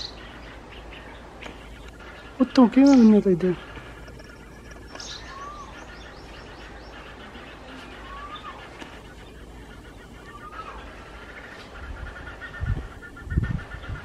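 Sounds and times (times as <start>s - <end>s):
sparrows chirping: 0.0s - 14.0s
steady background hiss: 0.0s - 14.0s.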